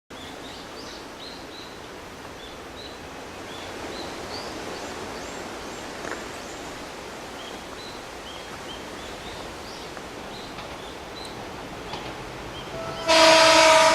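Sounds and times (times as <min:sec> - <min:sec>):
small birds chirping: 0:00.1 - 0:13.1
outdoor background hiss: 0:00.1 - 0:13.9.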